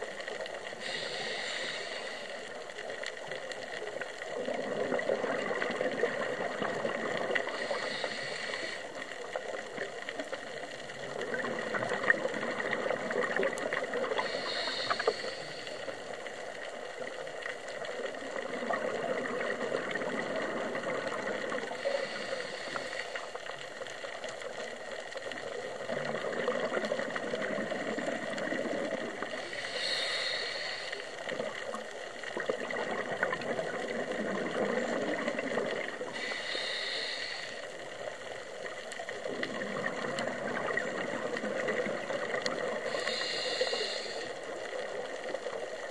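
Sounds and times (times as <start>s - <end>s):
exhaled bubbles gurgling: 0.0s - 45.9s
faint clicks: 0.0s - 45.9s
steady hiss: 0.0s - 45.9s.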